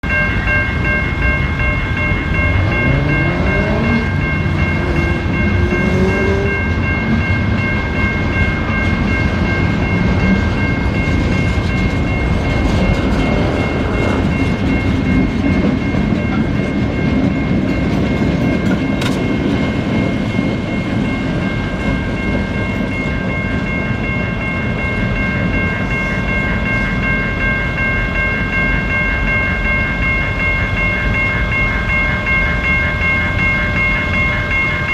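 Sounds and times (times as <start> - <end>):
crossing signal ringing: 0.0 - 34.9
train wheels clattering on rail: 0.1 - 29.8.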